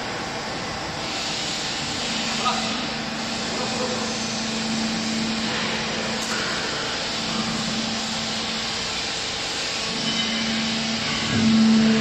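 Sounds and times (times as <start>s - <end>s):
hydraulic press motor hum: 1.5s - 12.0s.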